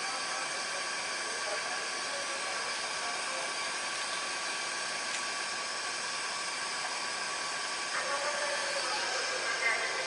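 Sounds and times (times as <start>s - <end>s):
train equipment hissing whir: 0.0s - 10.0s.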